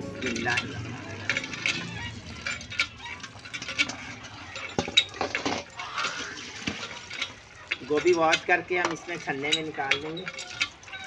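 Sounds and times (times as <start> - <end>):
clinks against metal bowl: 0.0 - 11.0.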